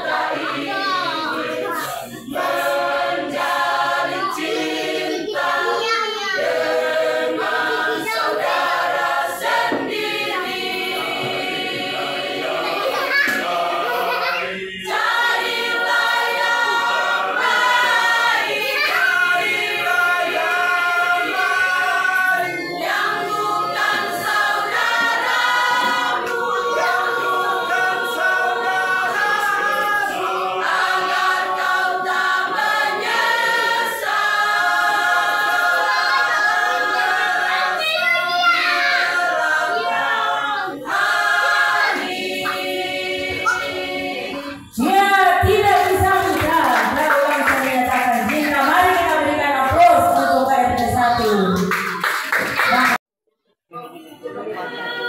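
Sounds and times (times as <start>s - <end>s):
mixed choir singing in harmony: 0.0s - 51.8s.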